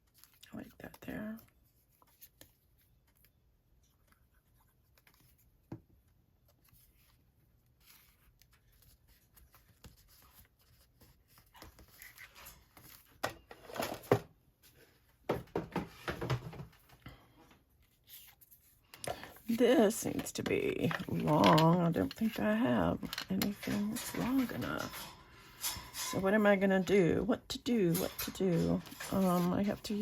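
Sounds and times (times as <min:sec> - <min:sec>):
paper rustling: 0:00.0 - 0:15.2, 0:17.7 - 0:27.0, 0:27.6 - 0:30.0.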